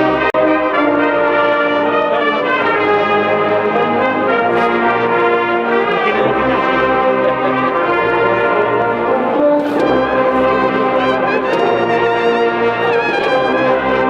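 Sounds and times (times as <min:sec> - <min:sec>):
brass band playing slow march: 0:00.0 - 0:14.0.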